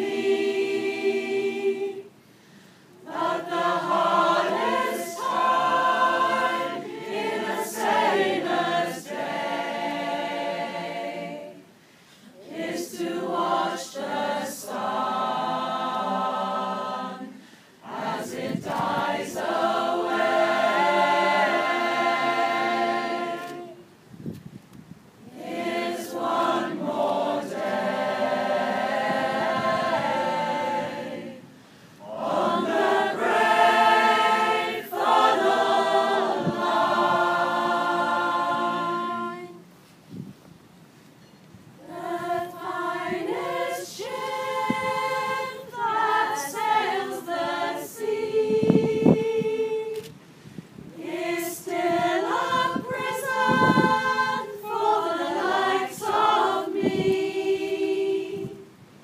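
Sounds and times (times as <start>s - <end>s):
mixed choir singing a cappella: 0.0s - 2.3s, 3.0s - 24.2s, 25.2s - 39.7s, 41.8s - 50.2s, 50.8s - 58.8s.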